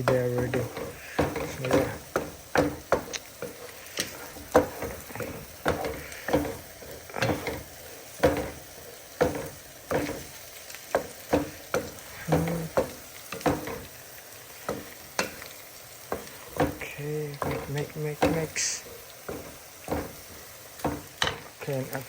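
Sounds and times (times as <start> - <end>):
spatula scraping a pan: 0.0 - 21.6
food sizzling in a pan: 0.0 - 22.0.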